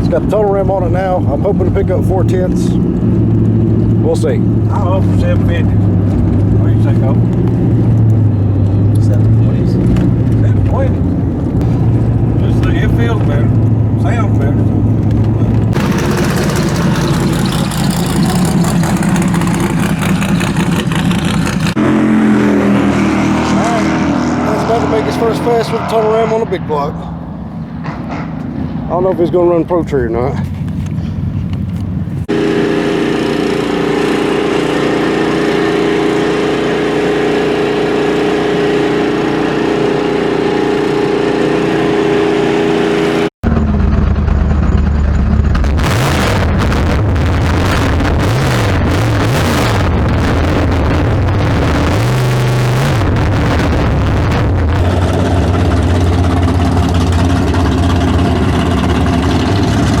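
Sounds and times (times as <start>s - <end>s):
car engine idling and revving: 0.0s - 60.0s.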